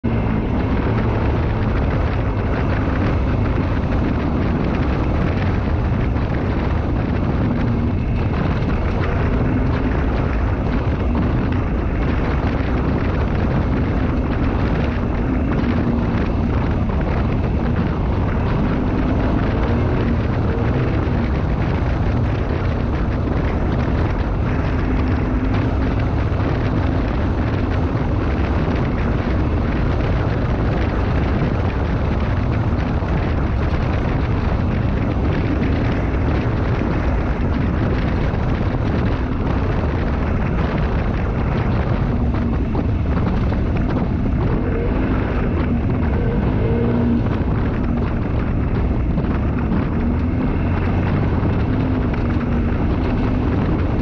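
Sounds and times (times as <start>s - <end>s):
engine hum: 0.0s - 54.0s
wind and road noise rumble: 0.0s - 54.0s.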